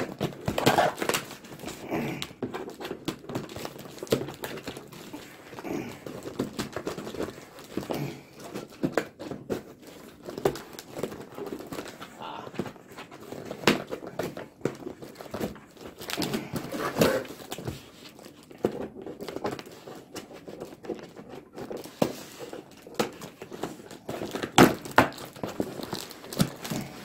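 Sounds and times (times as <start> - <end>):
cardboard rustling and crinkling: 0.0 - 27.0.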